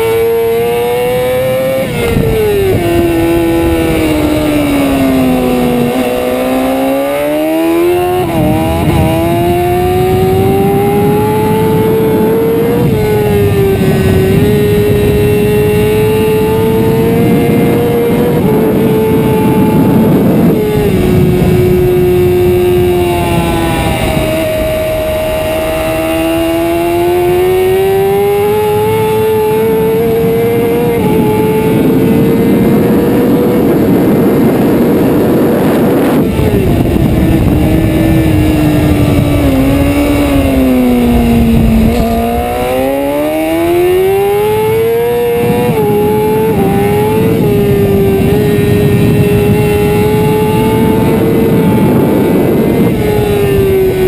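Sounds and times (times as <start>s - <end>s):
motorcycle engine at racing speed: 0.0s - 54.0s
wind rushing past camera: 0.0s - 54.0s.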